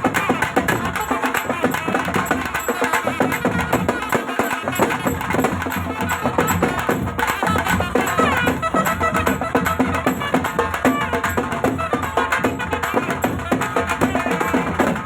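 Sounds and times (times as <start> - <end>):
fast beat of sharp strikes: 0.0 - 15.0
folk melody with bending pitch: 0.0 - 15.0.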